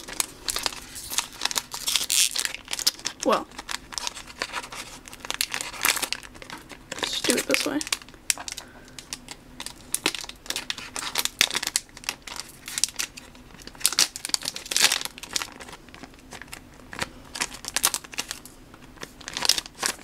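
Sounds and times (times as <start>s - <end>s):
foil wrapper crinkling and tearing: 0.0s - 20.0s.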